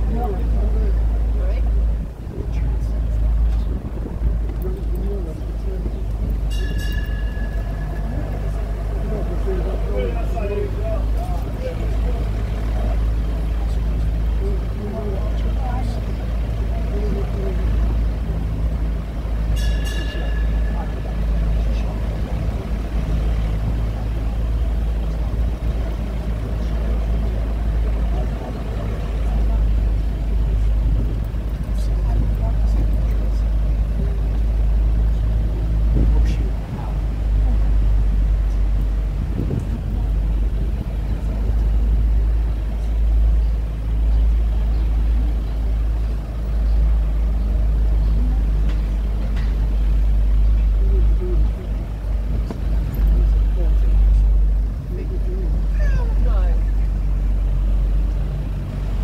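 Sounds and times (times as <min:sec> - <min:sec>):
tram engine rumbling: 0:00.0 - 0:59.0.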